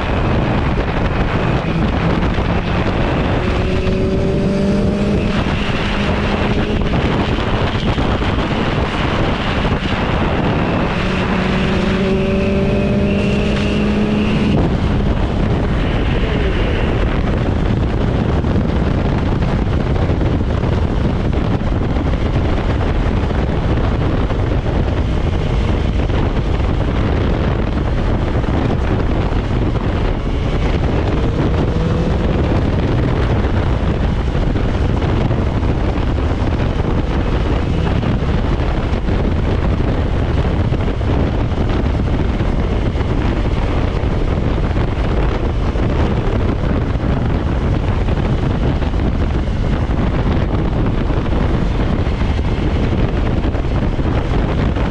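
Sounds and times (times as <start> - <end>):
motorcycle engine running: 0.0 - 54.9
wind rushing on microphone: 0.0 - 54.9.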